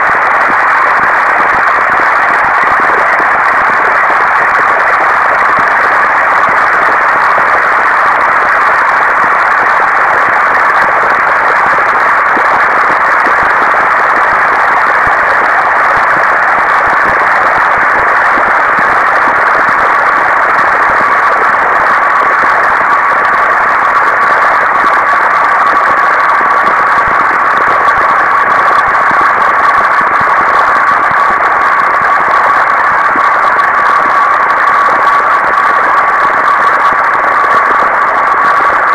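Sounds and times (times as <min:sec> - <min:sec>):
steady noisy rush: 0:00.0 - 0:38.9.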